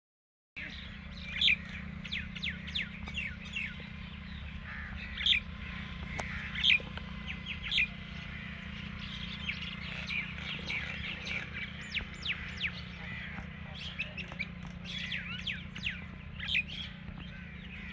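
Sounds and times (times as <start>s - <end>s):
small birds chirping: 0.6s - 17.9s.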